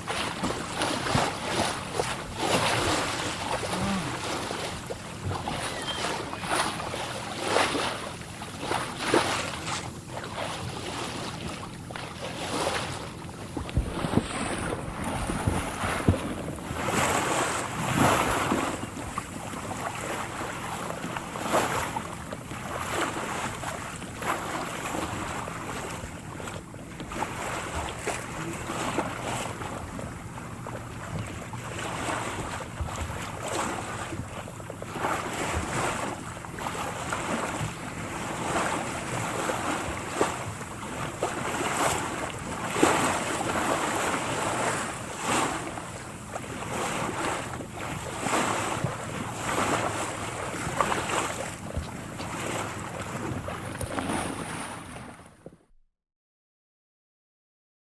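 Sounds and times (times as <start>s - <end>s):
wash of moving water: 0.0s - 55.6s
water splashing and sloshing: 0.0s - 55.7s.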